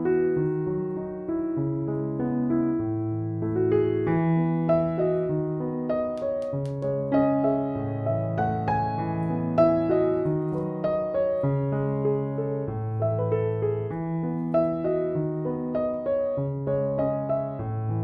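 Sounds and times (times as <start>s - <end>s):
gentle piano tune: 0.0s - 18.0s.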